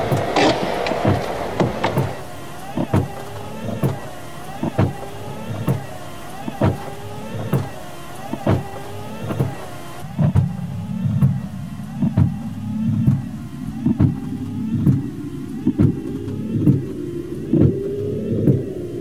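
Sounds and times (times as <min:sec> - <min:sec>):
car interior drone: 0:00.0 - 0:19.0.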